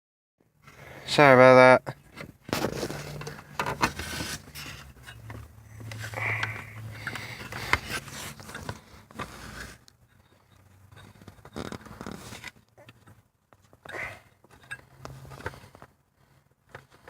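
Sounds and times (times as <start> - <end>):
car parts and tools handled: 1.9 - 17.0.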